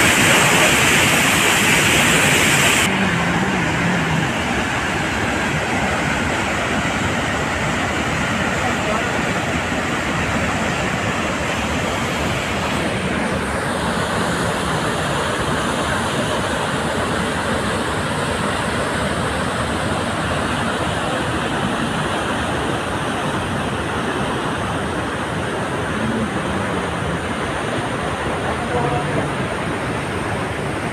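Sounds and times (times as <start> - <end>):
waterfall rushing over rock: 0.0 - 30.9.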